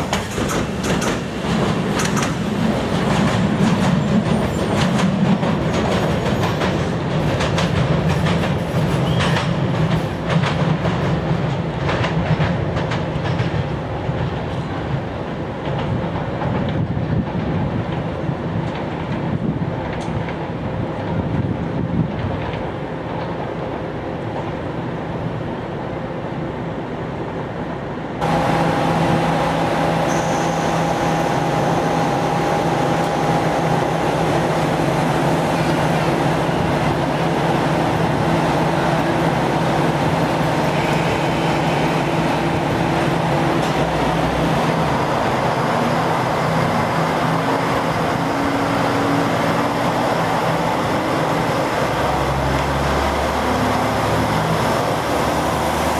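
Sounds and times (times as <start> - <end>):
diesel railcar engine droning: 0.0 - 55.9
distant train noise: 0.0 - 55.9.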